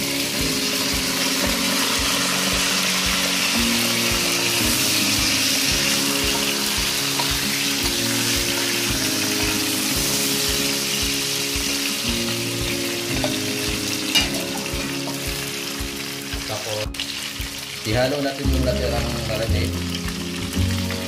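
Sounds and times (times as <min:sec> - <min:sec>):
meat sizzling in hot oil: 0:00.0 - 0:21.0
soft acoustic guitar music: 0:00.0 - 0:21.0.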